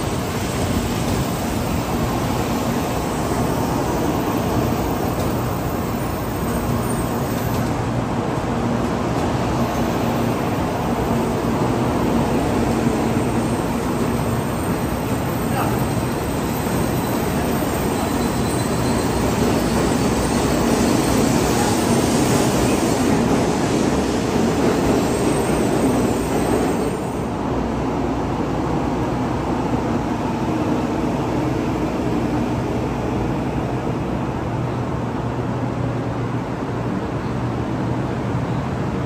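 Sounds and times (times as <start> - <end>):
bullet train rushing: 0.0 - 39.0.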